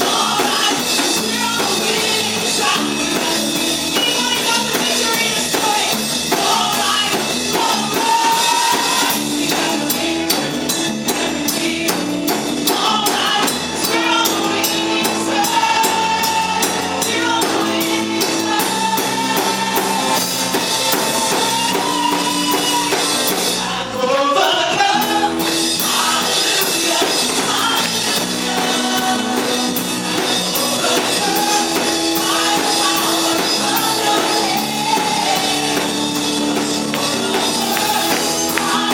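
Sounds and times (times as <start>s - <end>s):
band with drums: 0.0s - 38.9s.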